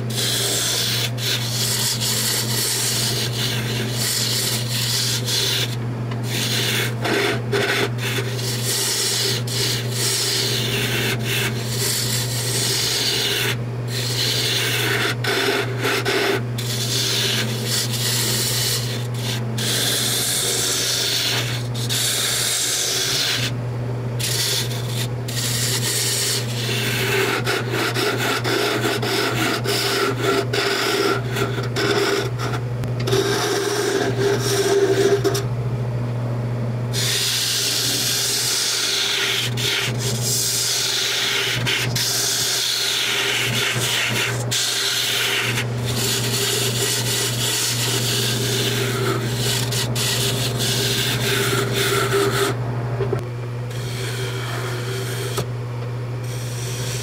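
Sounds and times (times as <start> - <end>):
chisel scraping wood on lathe: 0.0 - 23.6, 24.2 - 35.5, 37.0 - 52.6, 53.7 - 55.5, 56.2 - 57.0
lathe motor hum: 0.0 - 35.5, 37.0 - 55.6, 56.2 - 57.0.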